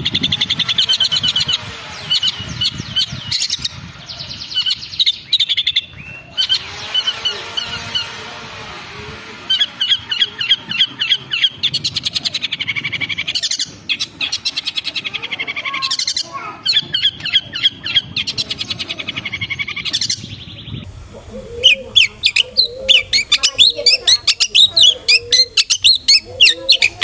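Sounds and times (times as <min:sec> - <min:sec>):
bird chattering song: 0:00.0 - 0:27.0.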